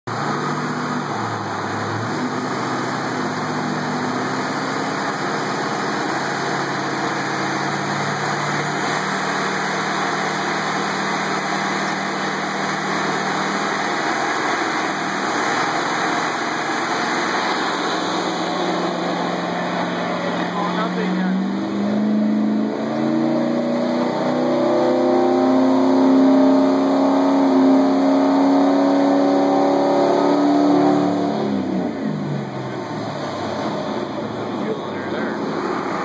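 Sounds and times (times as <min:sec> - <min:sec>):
diesel engine running: 0:00.1 - 0:36.0.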